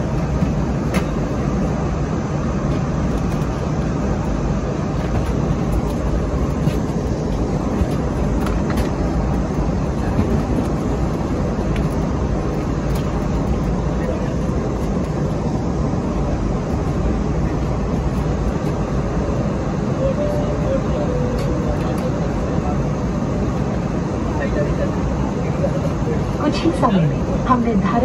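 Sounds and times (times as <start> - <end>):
jet cabin rumble: 0.0 - 28.0.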